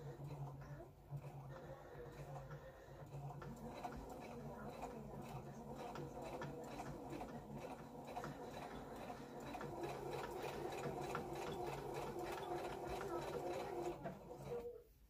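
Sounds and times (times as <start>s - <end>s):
sewing machine stitching: 0.0s - 14.8s.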